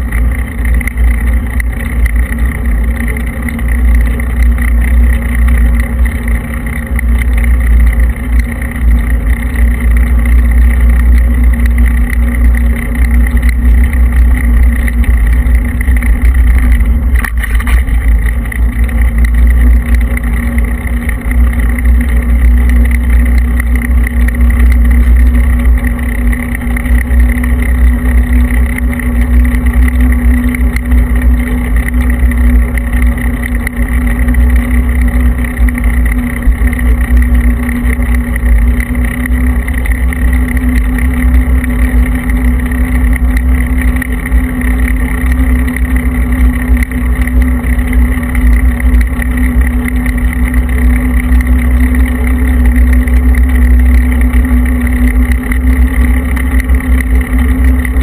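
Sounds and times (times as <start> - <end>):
constant hum: 0.0 - 58.0
tyre rumble on asphalt: 0.0 - 58.0.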